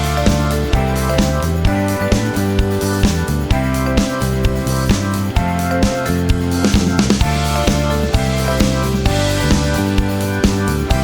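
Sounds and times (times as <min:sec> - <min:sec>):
upbeat guitar and drum music: 0:00.0 - 0:11.0.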